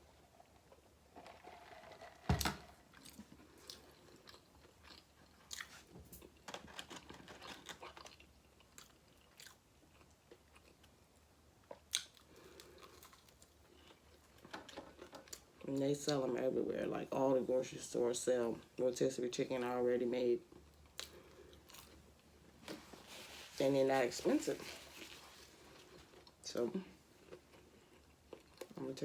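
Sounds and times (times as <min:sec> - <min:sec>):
person chewing and crunching food: 0:00.0 - 0:16.3, 0:20.4 - 0:28.8.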